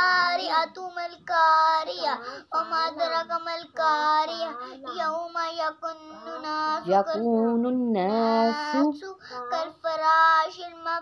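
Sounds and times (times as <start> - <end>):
boy chanting melodically: 0.0 - 11.0.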